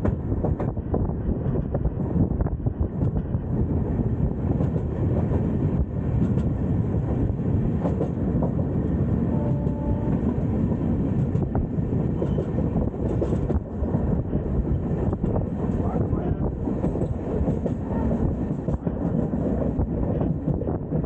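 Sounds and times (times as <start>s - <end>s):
train running rumble: 0.0s - 21.0s.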